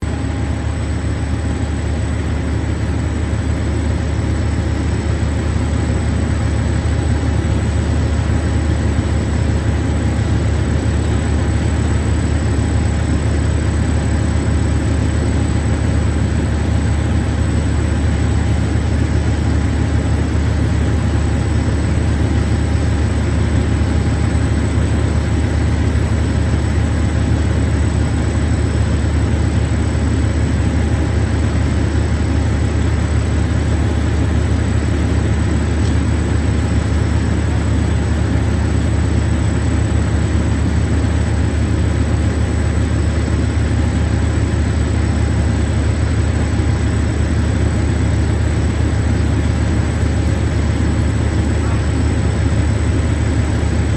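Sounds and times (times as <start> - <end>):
engine idling: 0.0 - 53.9.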